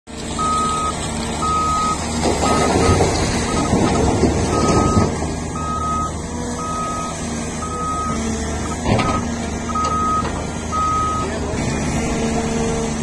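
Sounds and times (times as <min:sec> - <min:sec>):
heavy diesel machinery running: 0:00.1 - 0:13.0
reversing alarm beeping: 0:00.4 - 0:11.4.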